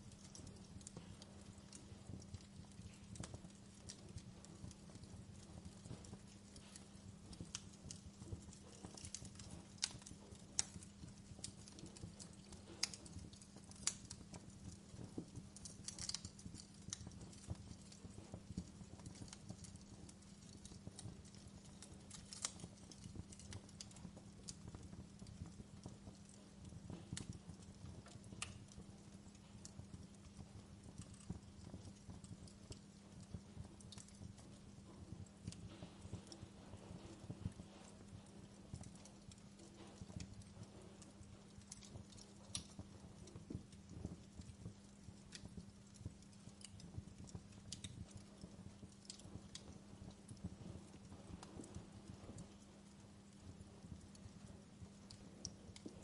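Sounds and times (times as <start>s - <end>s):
faint low hum: 0.0s - 56.0s
wood fire crackling: 0.0s - 56.0s.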